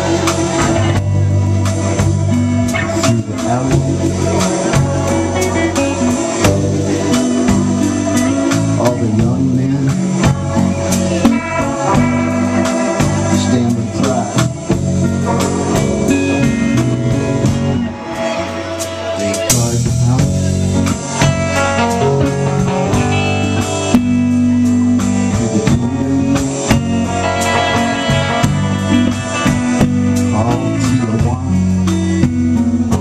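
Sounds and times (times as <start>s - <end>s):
drum kit beat: 0.0s - 33.0s
electric bass: 0.0s - 33.0s
electric guitars: 0.0s - 33.0s.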